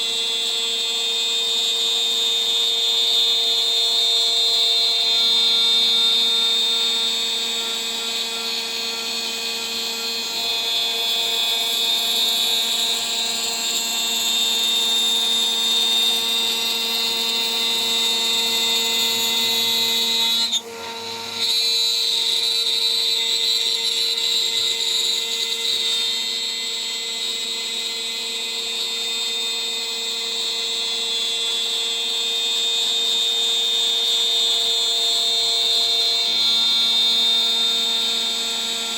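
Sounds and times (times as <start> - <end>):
router spindle whining while cutting: 0.0 - 38.9.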